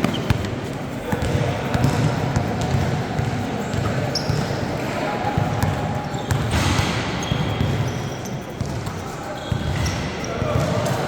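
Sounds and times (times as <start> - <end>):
basketball bouncing on court: 0.0 - 11.0
voices shouting and chattering: 0.0 - 11.0.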